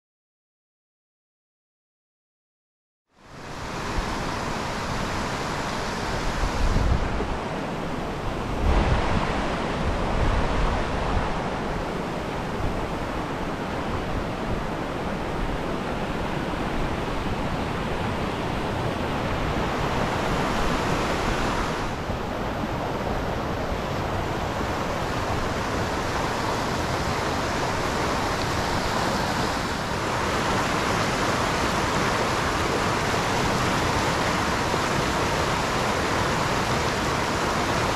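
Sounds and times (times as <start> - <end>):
creek water rushing: 3.2 - 37.9
wind buffeting microphone: 3.7 - 7.6, 8.3 - 37.9.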